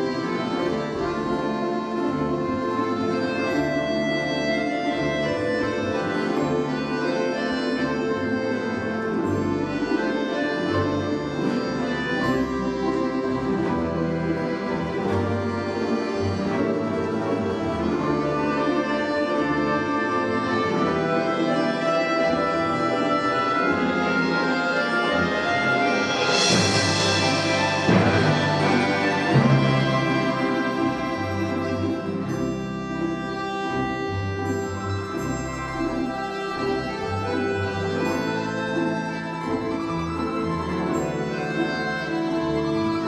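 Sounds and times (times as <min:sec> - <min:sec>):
folk instrument orchestra playing: 0:00.0 - 0:43.0.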